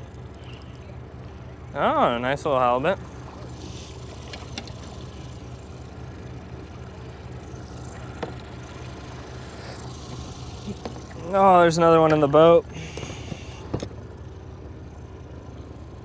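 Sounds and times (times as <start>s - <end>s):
boat motor idling: 0.0s - 16.0s.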